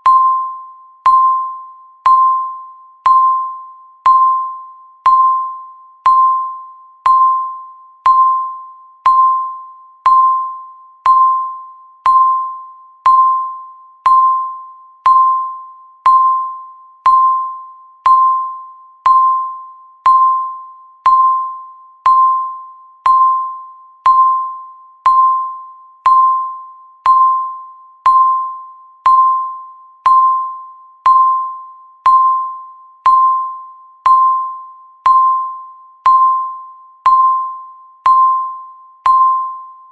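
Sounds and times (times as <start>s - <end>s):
electronic timer ding: 0.0s - 39.9s.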